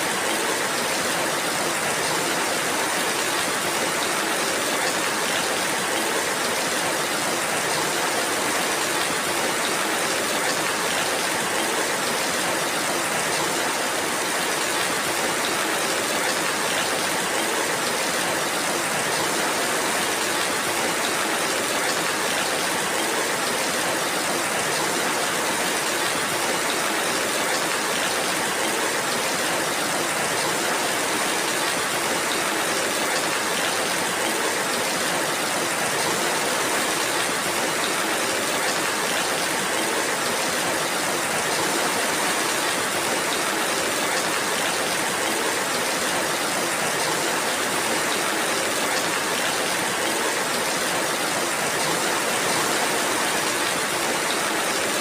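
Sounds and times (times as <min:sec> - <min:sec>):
steady rainfall hiss: 0:00.0 - 0:55.0.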